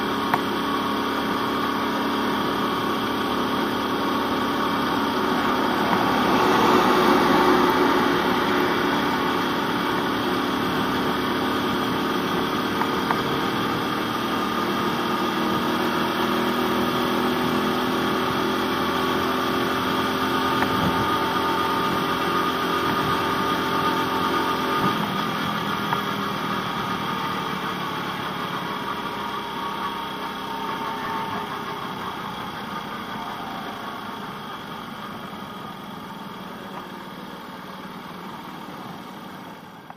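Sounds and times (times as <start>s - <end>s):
motorcycle engine cruising: 0.0s - 39.9s
road noise rushing: 0.0s - 39.9s.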